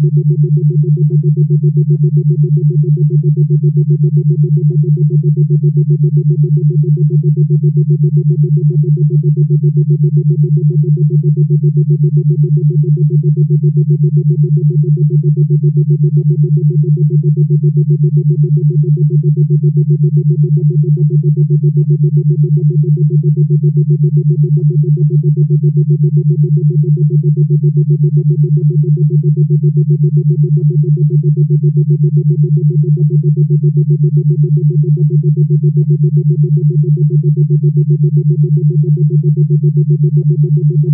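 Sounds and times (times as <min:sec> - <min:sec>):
pulsing synthesized drone tone: 0:00.0 - 0:40.9.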